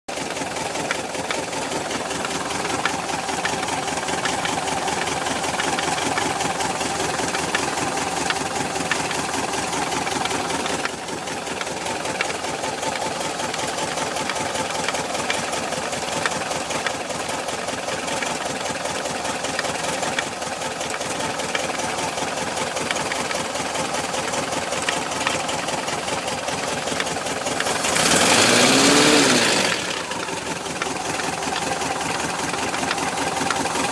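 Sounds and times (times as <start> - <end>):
engine idling: 0.1 - 33.9
rapid engine knock: 0.1 - 33.9.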